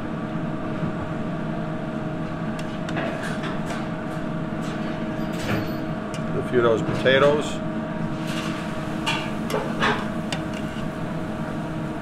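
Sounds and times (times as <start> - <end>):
kitchen machinery humming: 1.8 - 12.0.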